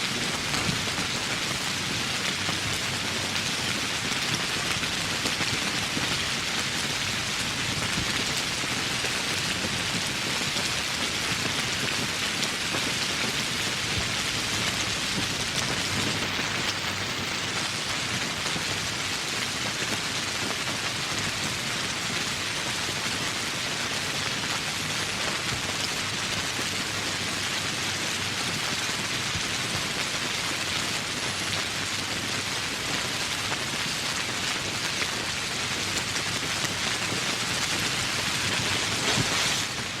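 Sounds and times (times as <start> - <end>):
rain on foliage: 0.0 - 40.0.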